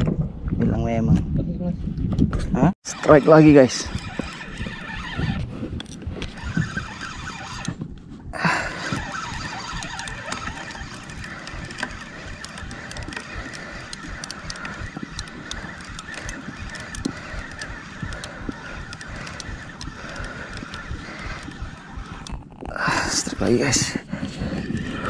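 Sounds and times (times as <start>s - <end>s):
fishing reel whirring and clicking: 2.8s - 7.8s, 8.4s - 25.0s.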